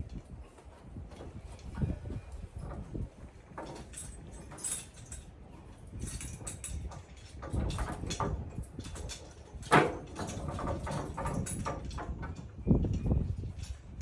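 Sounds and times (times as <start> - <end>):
hooves and harness clattering: 0.0 - 14.0.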